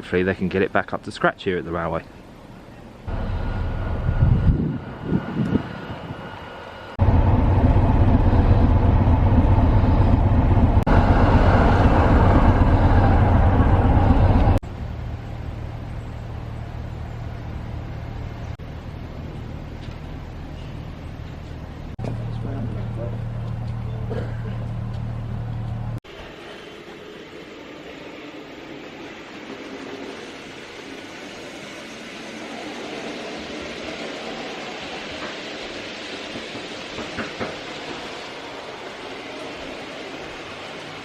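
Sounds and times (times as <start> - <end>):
diesel locomotive engine rumbling: 0.0 - 41.0.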